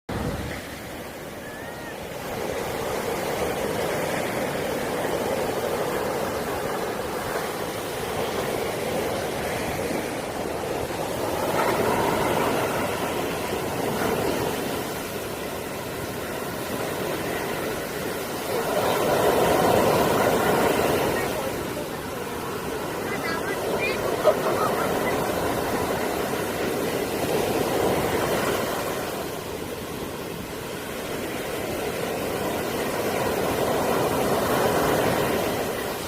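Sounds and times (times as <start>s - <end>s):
sea waves washing: 0.1s - 36.0s.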